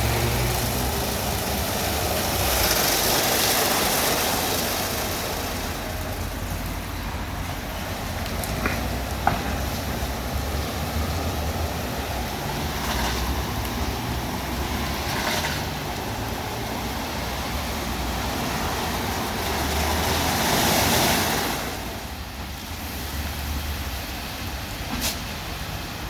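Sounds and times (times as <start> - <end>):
car wash water spray and brushing: 0.0 - 21.9, 22.7 - 25.8.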